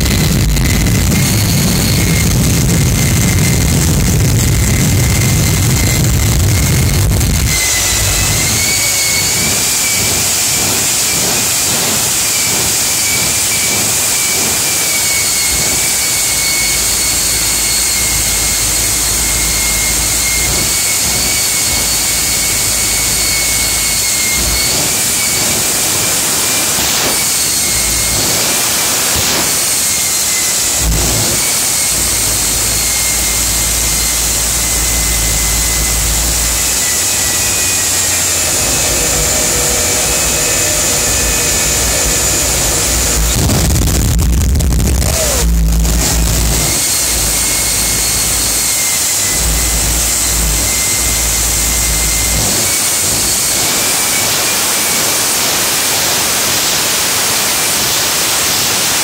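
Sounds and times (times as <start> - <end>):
jet engine turbine whine: 0.0 - 59.0.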